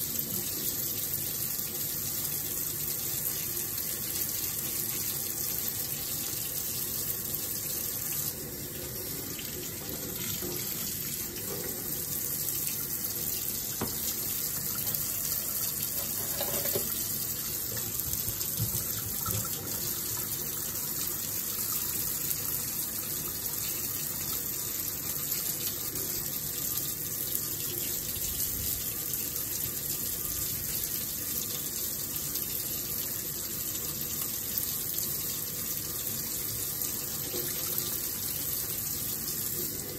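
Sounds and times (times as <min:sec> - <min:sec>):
tap water running into metal sink: 0:00.2 - 0:39.9.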